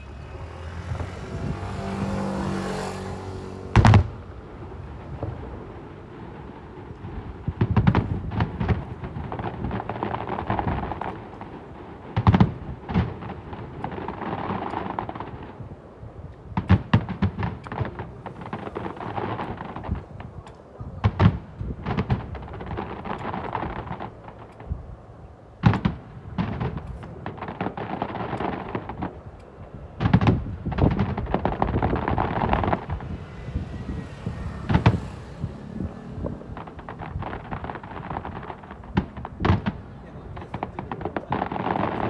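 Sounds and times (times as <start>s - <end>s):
firework crackling: 0.0s - 42.0s
firework shells booming: 0.0s - 42.0s.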